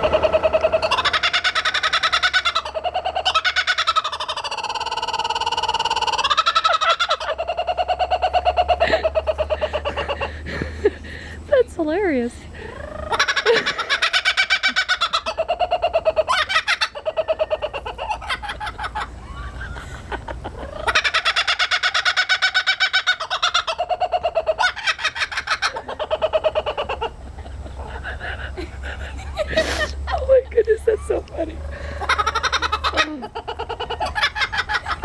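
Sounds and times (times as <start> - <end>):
kookaburra laughing call: 0.0 - 11.4, 12.6 - 35.0.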